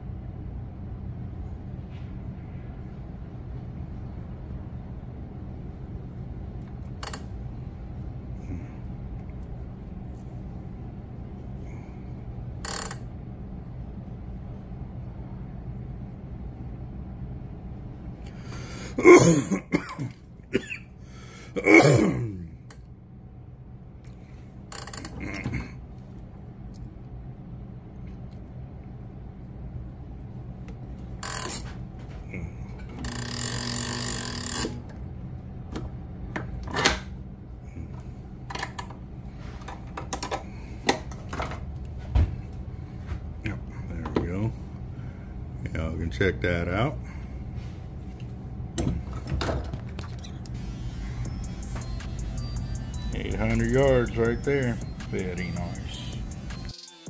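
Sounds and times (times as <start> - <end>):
steady low hum: 0.0 - 56.7.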